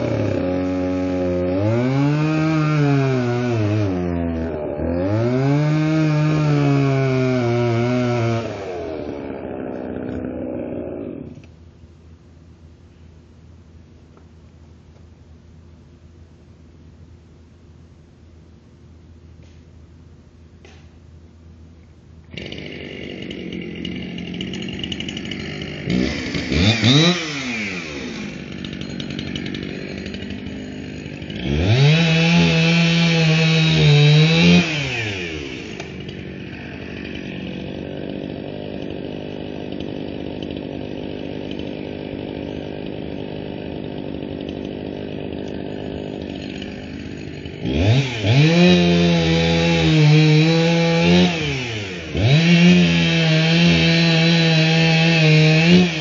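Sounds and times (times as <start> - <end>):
chainsaw cutting into log: 0.0 - 11.5, 22.3 - 56.0
chainsaw revving: 0.0 - 11.5, 22.3 - 56.0.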